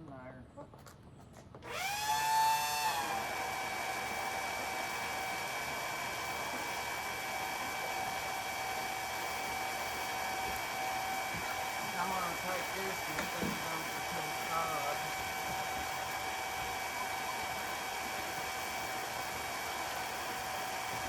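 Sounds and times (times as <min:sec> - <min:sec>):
electric water pump whining: 0:01.6 - 0:21.0.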